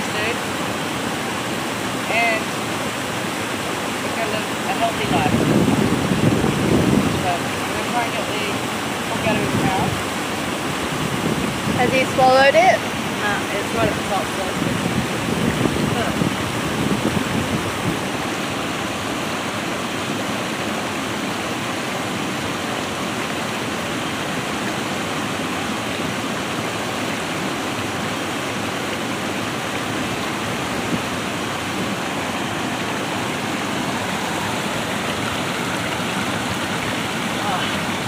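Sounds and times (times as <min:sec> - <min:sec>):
creek water rushing over rocks: 0:00.0 - 0:38.0.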